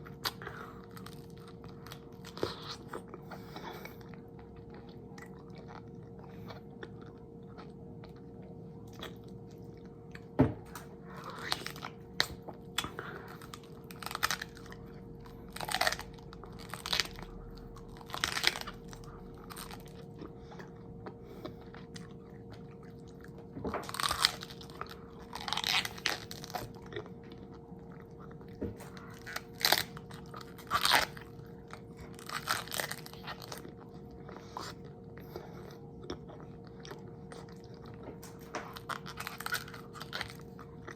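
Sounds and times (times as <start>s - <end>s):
crunchy bites and chewing: 0.0s - 40.9s.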